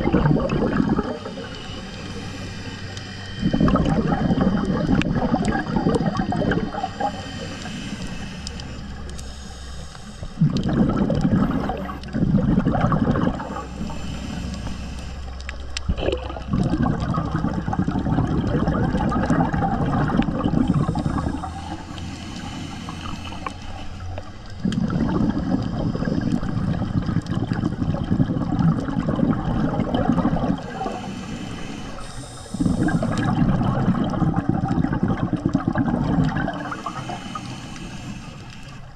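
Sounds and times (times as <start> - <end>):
exhaled bubbles gurgling underwater: 0.0 - 38.9.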